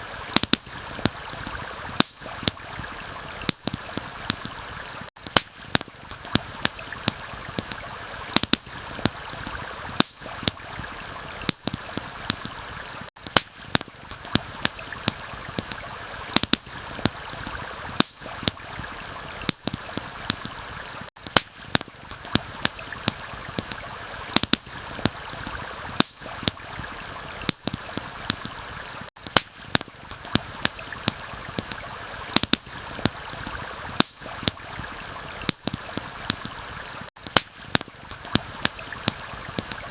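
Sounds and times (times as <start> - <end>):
campfire crackling: 0.0 - 39.9
running water: 0.0 - 39.9.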